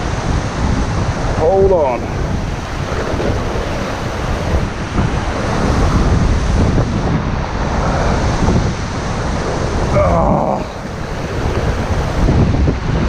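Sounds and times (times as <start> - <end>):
surf washing on shore: 0.0 - 13.0
wind buffeting microphone: 0.0 - 13.0.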